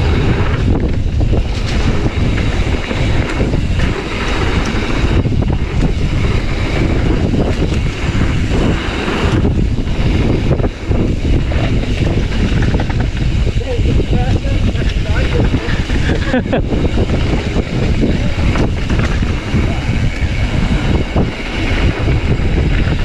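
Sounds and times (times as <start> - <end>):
bike clattering over bumps: 0.0 - 23.0
bike tyre noise: 0.0 - 23.0
wind rushing over microphone: 0.0 - 23.0.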